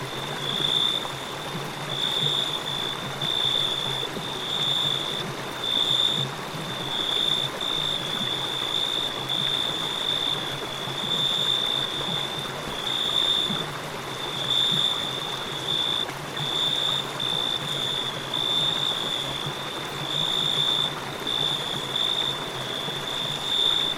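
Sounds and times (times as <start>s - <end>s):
crickets chirping: 0.0s - 23.9s
river water flowing: 0.0s - 23.9s.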